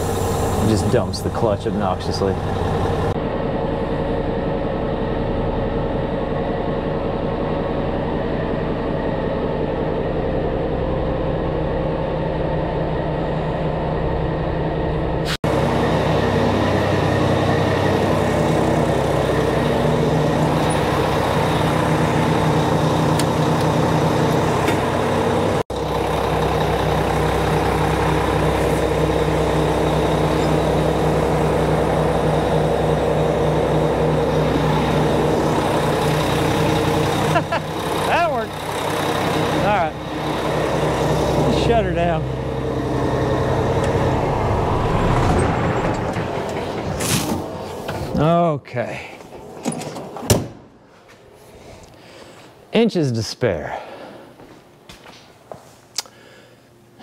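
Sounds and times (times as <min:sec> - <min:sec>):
truck diesel engine droning: 0:00.0 - 0:49.6.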